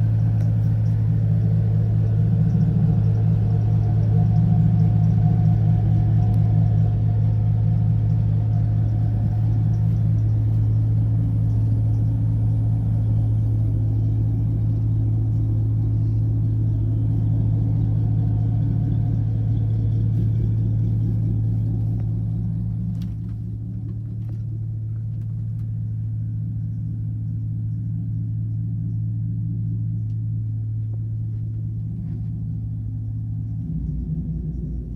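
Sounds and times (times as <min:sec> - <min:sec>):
vehicle engine idling: 0:00.0 - 0:34.9.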